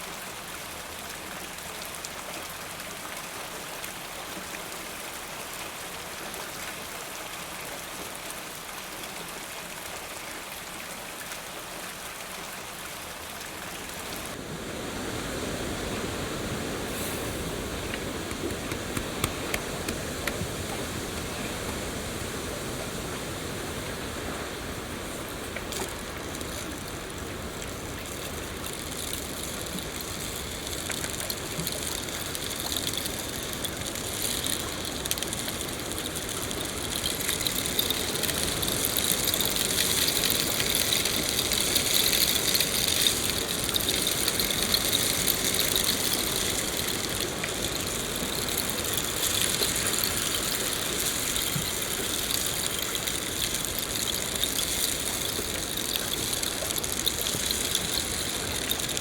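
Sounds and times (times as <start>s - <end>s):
rain falling in a forest: 0.0s - 59.0s.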